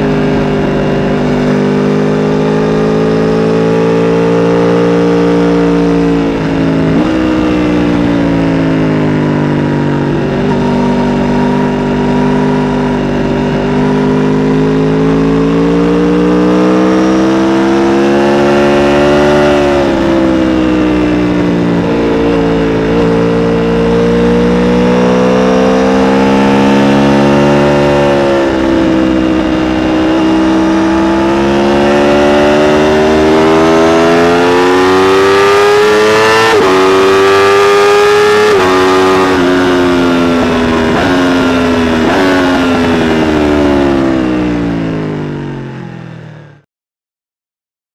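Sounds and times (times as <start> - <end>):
motorcycle engine revving: 0.0 - 46.6.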